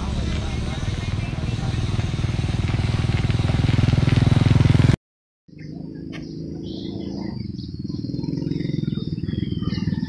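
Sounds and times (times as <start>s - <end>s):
small motorbike engine running: 0.0s - 5.0s, 5.9s - 10.0s.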